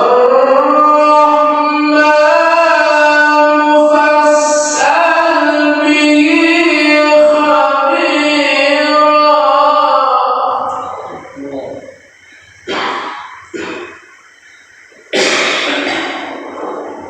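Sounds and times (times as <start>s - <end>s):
person reciting melodically: 0.0s - 13.9s.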